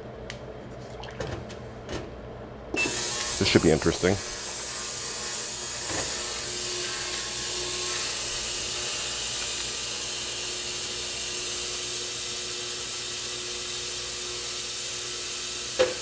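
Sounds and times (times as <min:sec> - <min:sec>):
faint steady hum: 0:02.7 - 0:16.0
ultrasonic cleaner hiss: 0:02.8 - 0:16.0.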